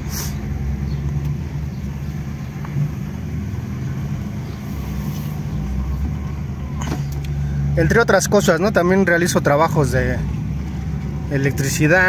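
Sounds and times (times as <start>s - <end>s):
car engine hum from cabin: 0.0s - 12.0s.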